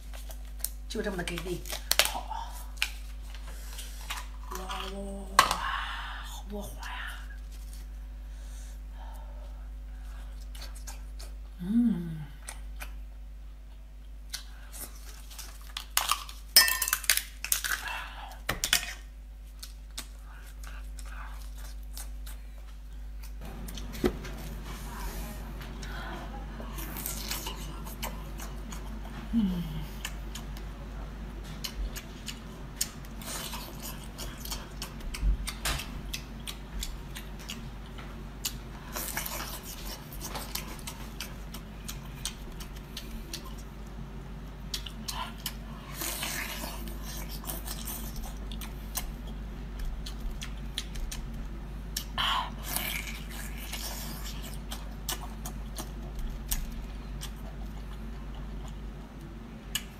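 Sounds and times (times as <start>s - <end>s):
person chewing food: 7.3s - 59.9s.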